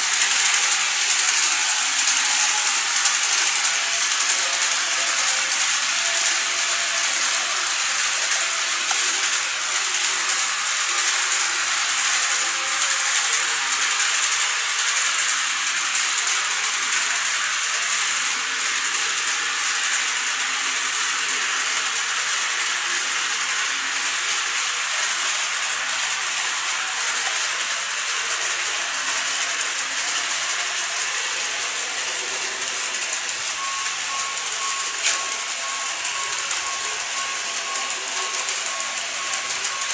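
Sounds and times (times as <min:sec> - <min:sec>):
model train rolling hiss: 0:00.0 - 0:39.9.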